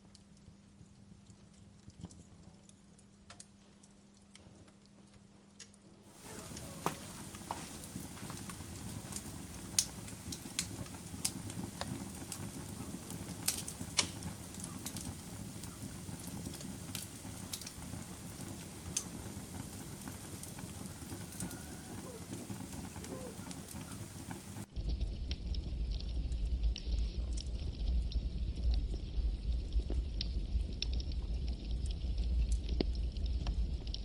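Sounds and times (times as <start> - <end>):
campfire flames rushing: 6.1 - 34.0
wood crackling and popping: 6.1 - 34.0.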